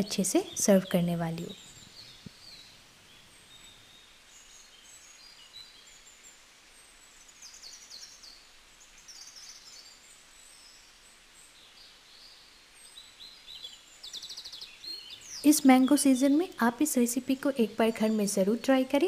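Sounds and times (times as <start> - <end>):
faint small birds chirping: 0.0 - 19.0
steady low hiss: 0.0 - 19.0.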